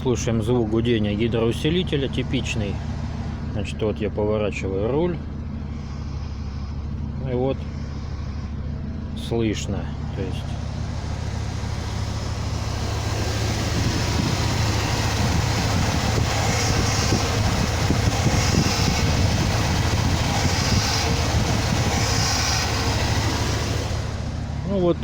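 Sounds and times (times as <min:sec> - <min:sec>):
engine running: 0:00.0 - 0:25.0
power steering humming: 0:00.0 - 0:25.0.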